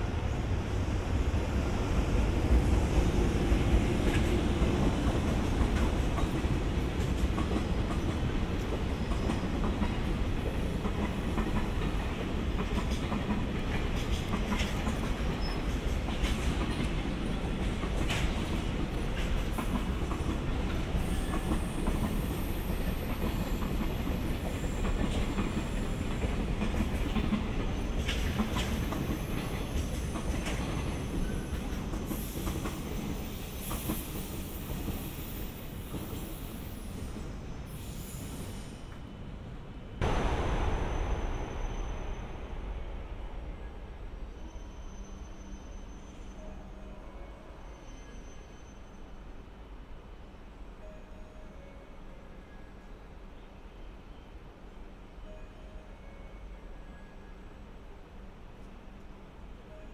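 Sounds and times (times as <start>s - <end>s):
electric locomotive passing: 0.0s - 59.9s.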